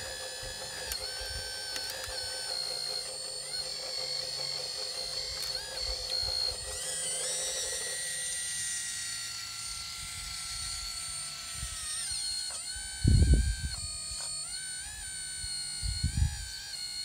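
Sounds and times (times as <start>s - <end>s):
pump motor whining: 0.0s - 17.0s.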